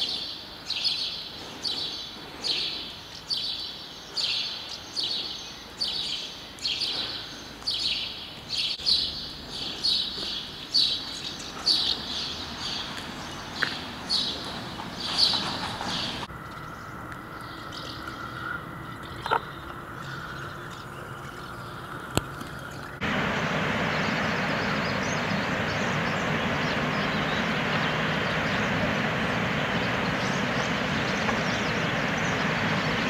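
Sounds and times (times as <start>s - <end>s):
steady noise haze: 0.0s - 33.0s.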